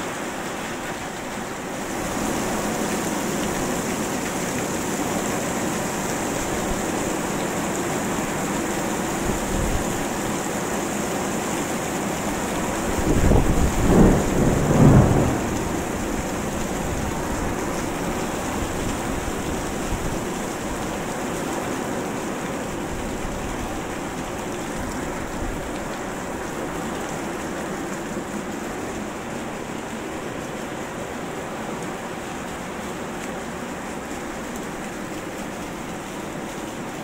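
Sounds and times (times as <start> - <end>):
hard rain falling: 0.0 - 37.0.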